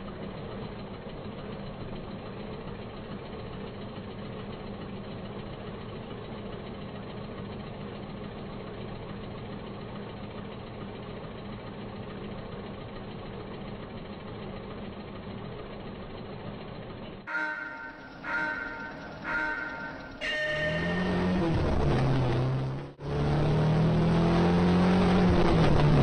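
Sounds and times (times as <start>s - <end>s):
car engine idling: 0.0s - 23.6s.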